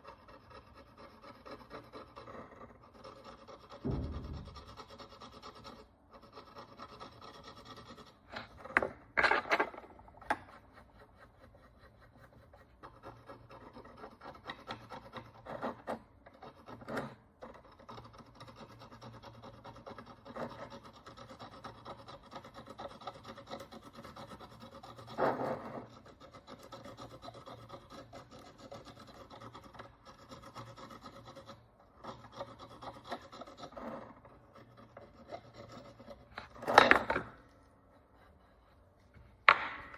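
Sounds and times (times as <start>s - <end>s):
hand tool scraping a coin: 0.0s - 39.9s.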